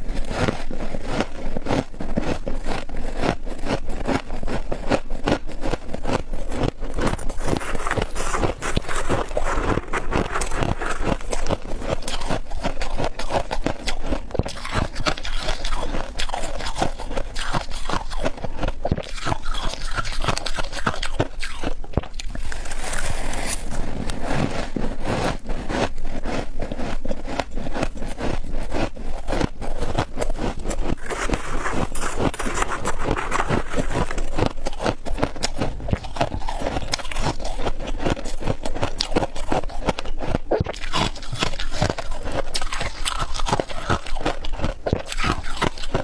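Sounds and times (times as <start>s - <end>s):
squeaky crunching of frost: 6.0s - 46.0s.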